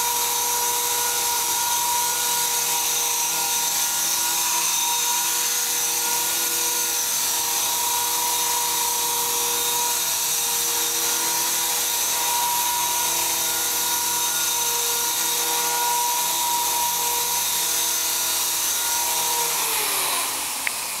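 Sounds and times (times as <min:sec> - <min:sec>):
rc helicopter motor whine: 0:00.0 - 0:21.0.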